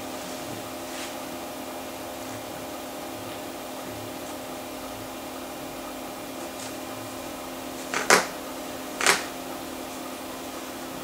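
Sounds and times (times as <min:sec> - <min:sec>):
hard drive spinning hum: 0:00.0 - 0:11.0.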